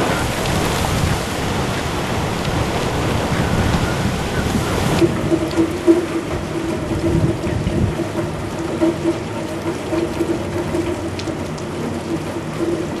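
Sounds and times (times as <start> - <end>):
low wind whistle: 0.0 - 11.3
heavy rain hiss: 0.0 - 13.0
wind gusts buffeting microphone: 0.0 - 13.0.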